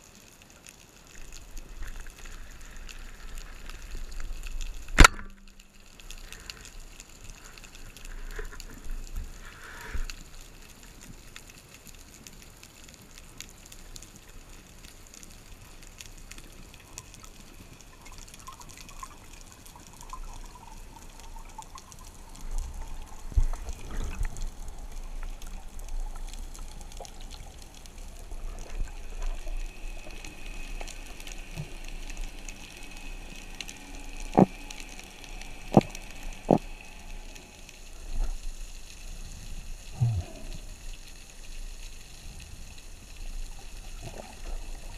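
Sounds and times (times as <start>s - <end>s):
muffled underwater water noise: 0.0s - 44.9s
underwater bubbling: 0.0s - 44.9s
faint clicks and knocks: 0.1s - 39.0s.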